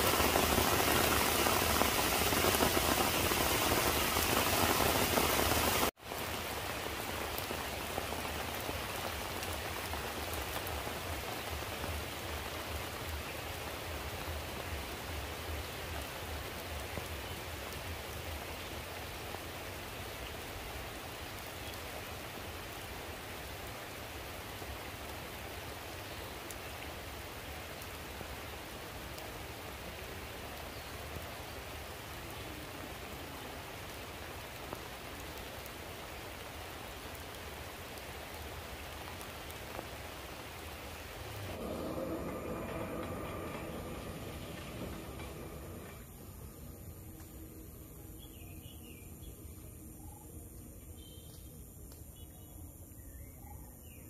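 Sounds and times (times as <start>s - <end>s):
rain falling: 0.0s - 53.4s.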